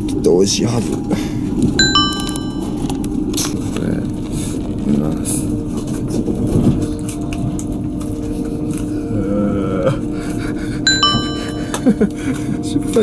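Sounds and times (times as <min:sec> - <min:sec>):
constant hum: 0:00.0 - 0:12.5.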